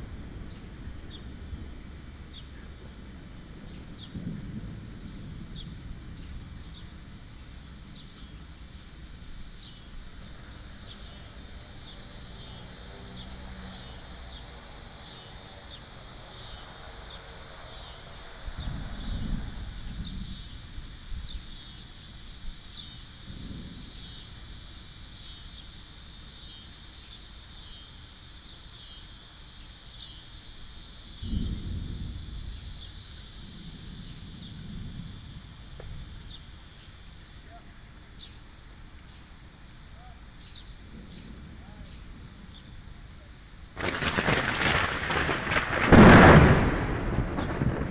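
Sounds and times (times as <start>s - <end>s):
low thunder rumble: 0.0s - 26.3s, 30.9s - 37.8s, 40.5s - 47.9s
insects pulsing calls: 0.0s - 47.9s.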